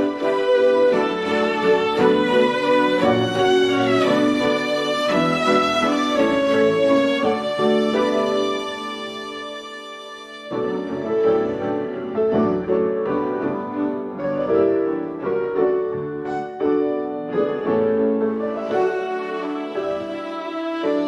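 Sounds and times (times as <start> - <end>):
slow gentle piano melody: 0.0 - 21.0.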